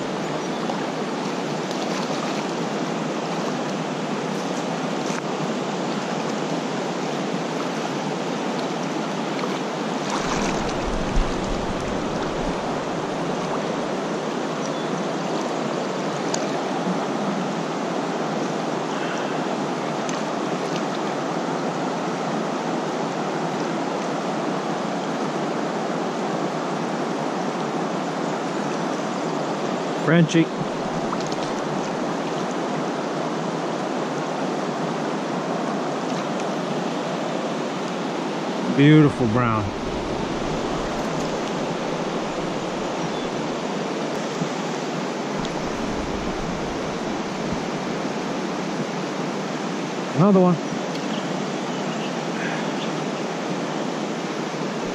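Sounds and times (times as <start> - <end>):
creek water rushing: 0.0 - 54.9.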